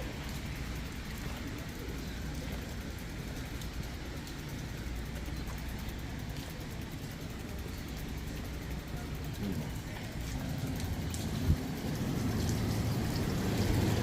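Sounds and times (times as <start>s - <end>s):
low street rumble: 0.0s - 14.0s
rain hiss: 0.0s - 14.0s.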